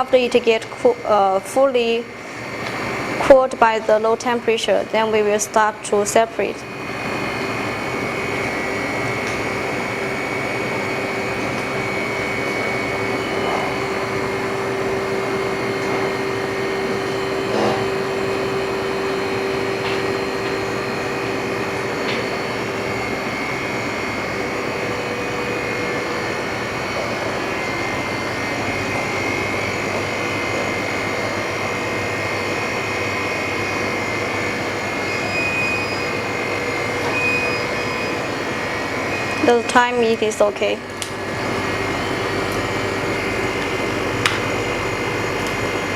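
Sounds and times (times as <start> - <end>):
refrigeration unit humming: 0.0 - 45.9.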